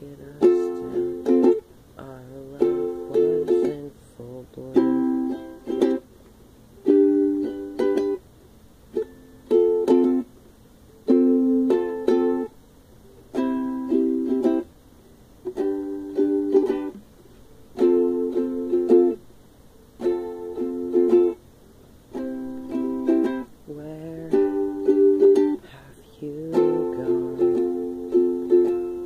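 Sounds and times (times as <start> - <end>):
ukulele strumming: 0.0 - 8.3, 8.9 - 29.0.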